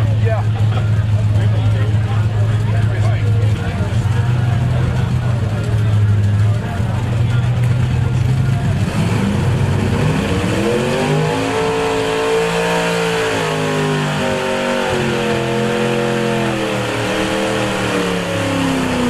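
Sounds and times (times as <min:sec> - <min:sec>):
pulling truck engine at full throttle: 0:00.0 - 0:19.0.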